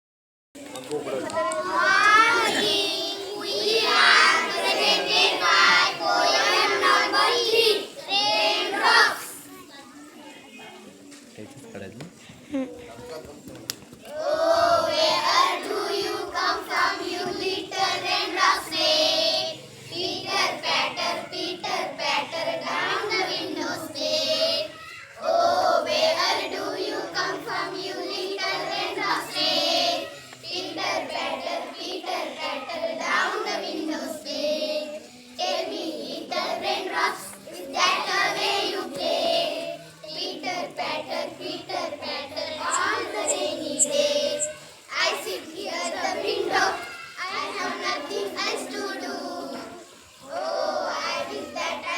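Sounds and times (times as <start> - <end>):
child singing: 1.3 - 9.5, 14.1 - 51.9.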